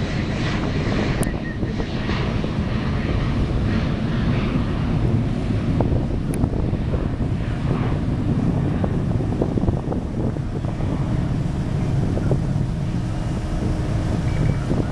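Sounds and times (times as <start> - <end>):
jet engines rumbling: 0.0 - 14.9
wind noise on microphone: 0.0 - 14.9.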